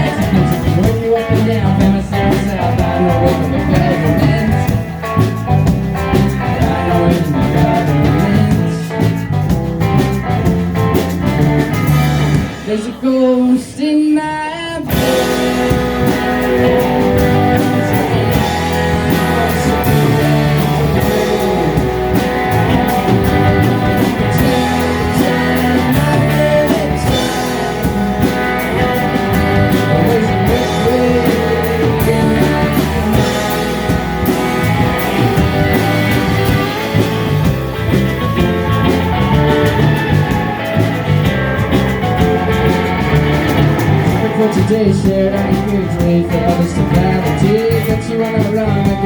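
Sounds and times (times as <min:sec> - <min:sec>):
live rock band playing: 0:00.0 - 0:14.1, 0:14.7 - 0:49.0
electric guitar: 0:00.0 - 0:49.0.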